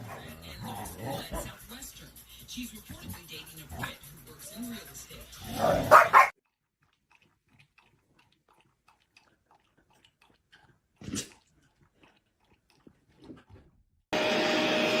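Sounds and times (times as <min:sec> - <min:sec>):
dog chewing: 0:00.0 - 0:13.9.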